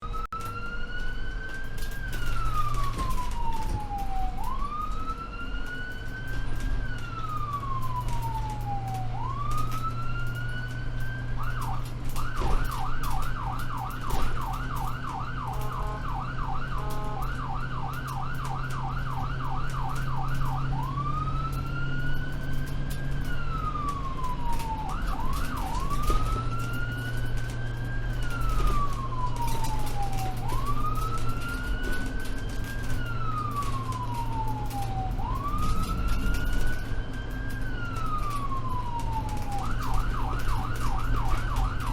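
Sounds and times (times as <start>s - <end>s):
ambulance siren: 0.0s - 41.9s.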